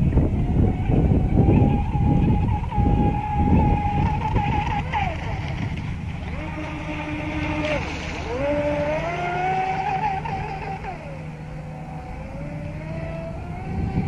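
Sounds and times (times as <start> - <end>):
rc boat motor whining: 0.0 - 14.0.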